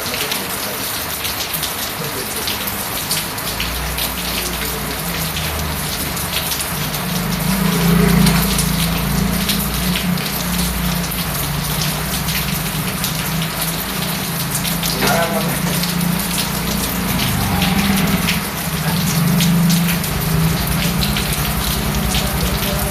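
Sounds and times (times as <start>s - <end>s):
rain hissing: 0.0s - 22.9s
raindrop hits: 0.0s - 22.9s.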